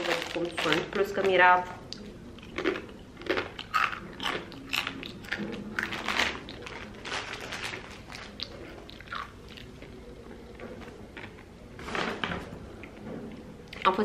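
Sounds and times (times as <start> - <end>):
crunchy crackers being chewed: 0.0 - 11.5.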